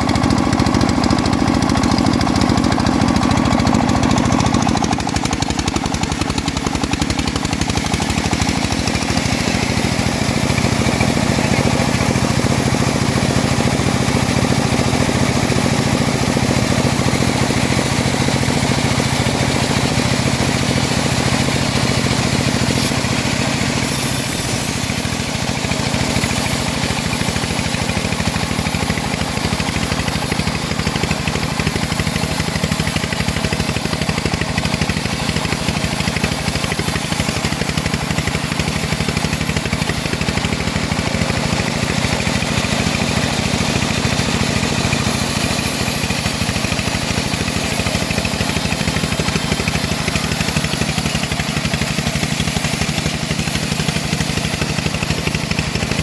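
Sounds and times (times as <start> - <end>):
saw cutting logs: 0.0 - 56.0
sawmill engine running: 0.0 - 56.0.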